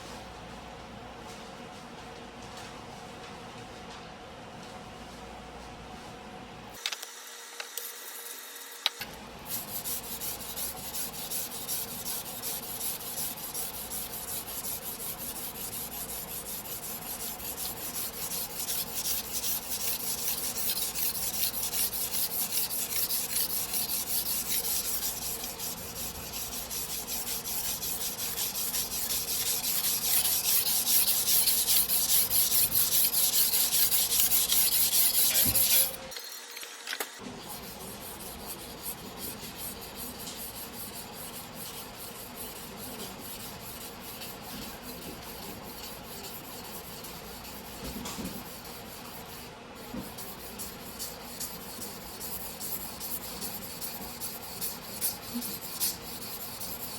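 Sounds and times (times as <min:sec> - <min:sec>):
knife scraping on whetstone: 0:09.5 - 0:36.6, 0:37.4 - 0:56.9.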